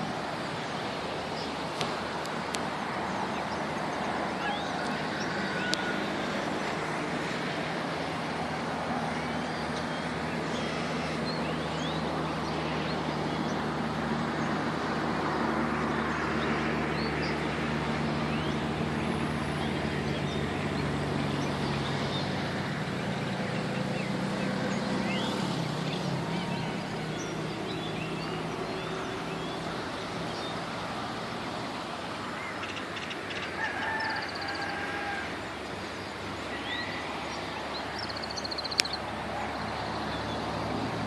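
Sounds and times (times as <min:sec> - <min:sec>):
engine hum: 0:00.0 - 0:41.0
traffic noise: 0:00.0 - 0:41.0.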